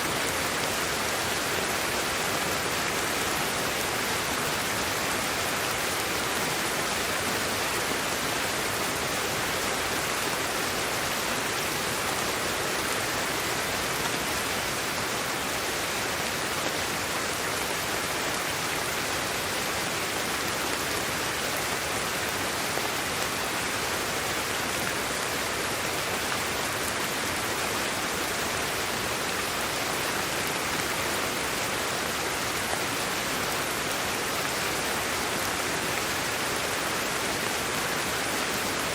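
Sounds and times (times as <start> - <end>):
steady noise hiss: 0.0 - 38.9.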